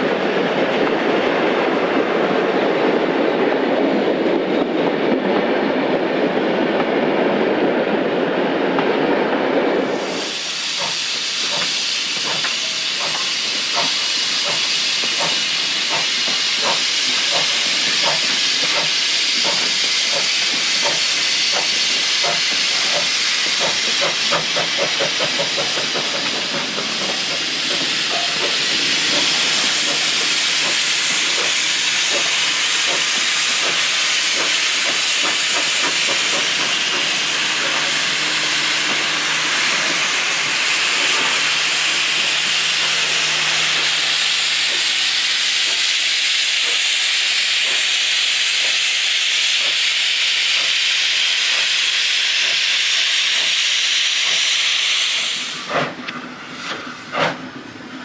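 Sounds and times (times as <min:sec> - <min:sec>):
locomotive steam hissing: 0:09.5 - 0:58.0.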